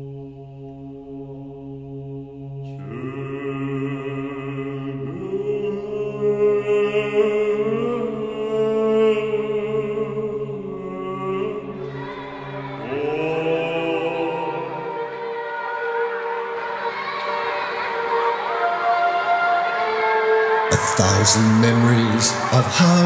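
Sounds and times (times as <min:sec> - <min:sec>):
wordless chant-like voices: 0:00.0 - 0:23.0.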